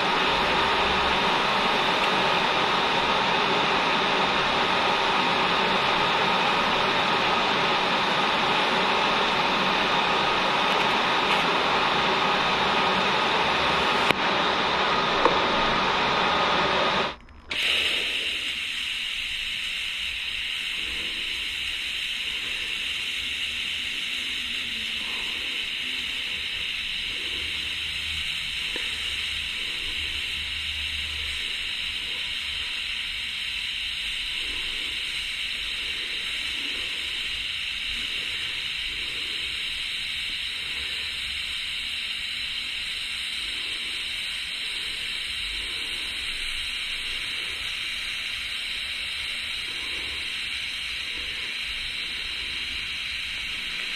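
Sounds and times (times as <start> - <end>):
welding arc hissing: 0.0 - 53.9.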